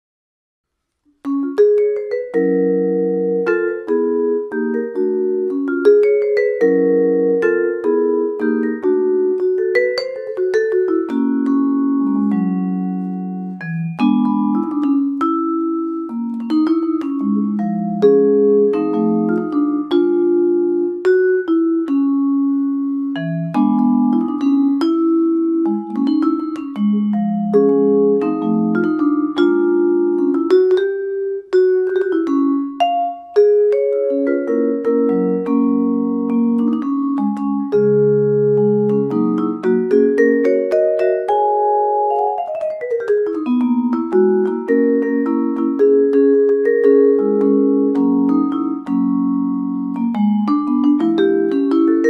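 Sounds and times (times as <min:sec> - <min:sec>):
vibraphone played with mallets: 0:01.2 - 0:52.0.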